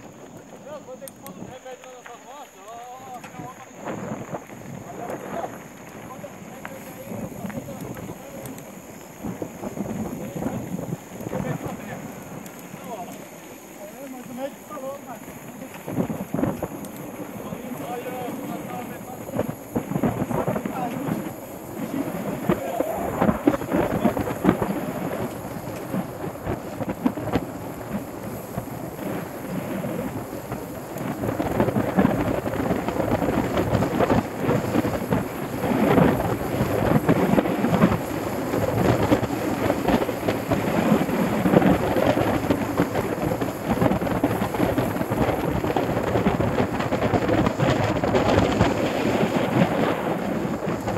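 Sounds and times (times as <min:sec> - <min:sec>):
bike tyre rumble on dirt: 0:00.0 - 0:50.9
wind buffeting microphone: 0:02.9 - 0:50.9.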